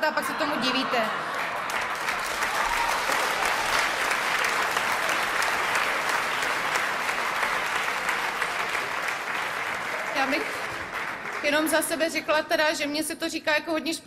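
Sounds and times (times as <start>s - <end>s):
audience applauding: 1.1s - 12.4s.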